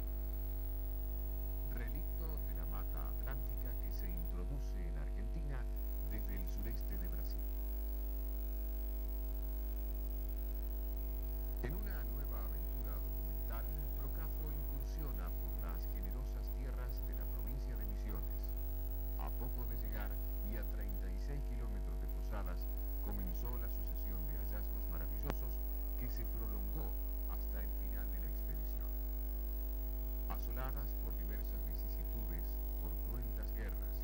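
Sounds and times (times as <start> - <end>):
electrical mains hum: 0.0 - 34.0
faint wavering sounds: 1.7 - 34.0.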